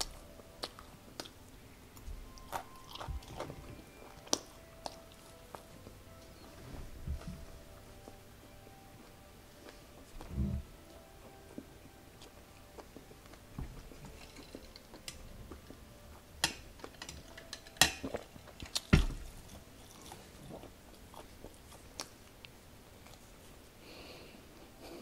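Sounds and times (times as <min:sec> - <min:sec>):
chewing fried chicken: 0:00.0 - 0:06.5, 0:09.0 - 0:17.4, 0:18.0 - 0:23.8.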